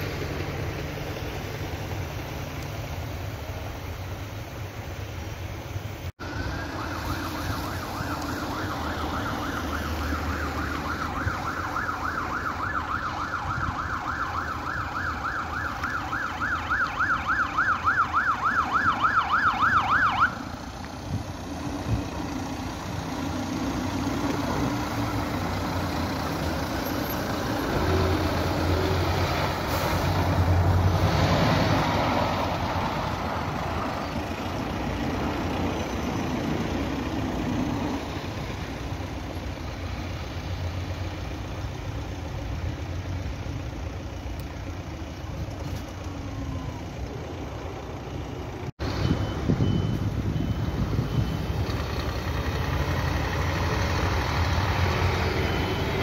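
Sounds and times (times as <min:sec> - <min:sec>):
fire truck diesel engine rumbling: 0:00.0 - 0:56.0
fire engine siren yelping: 0:06.2 - 0:56.0.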